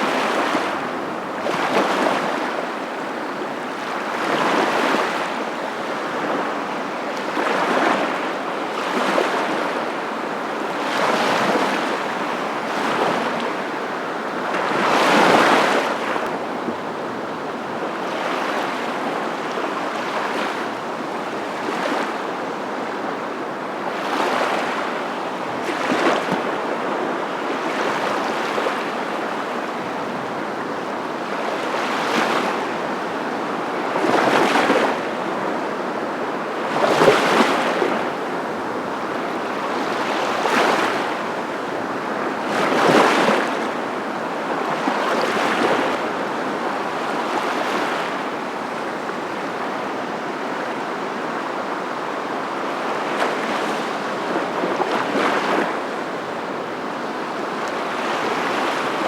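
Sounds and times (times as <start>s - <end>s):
surf waves washing in: 0.0s - 59.0s.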